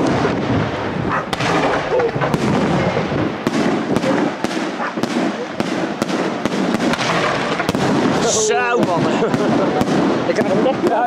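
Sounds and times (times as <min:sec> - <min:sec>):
fireworks bursting: 0:00.0 - 0:11.0
fireworks crackle and rumble: 0:00.0 - 0:11.0.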